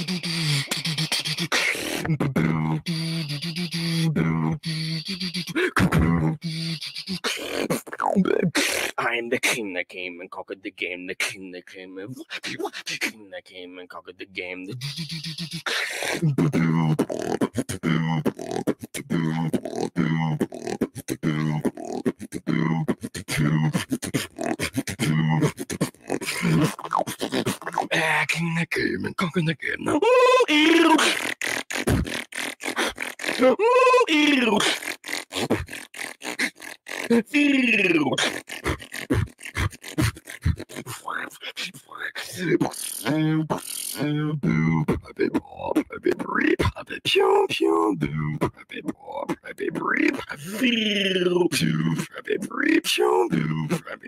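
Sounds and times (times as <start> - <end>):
beatboxing: 0.0 - 9.8, 11.2 - 13.2, 14.4 - 54.0.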